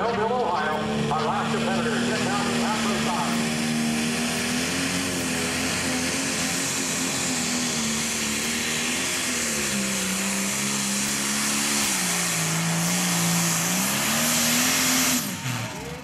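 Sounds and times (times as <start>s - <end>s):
diesel tractor engine under full load: 0.0s - 16.0s.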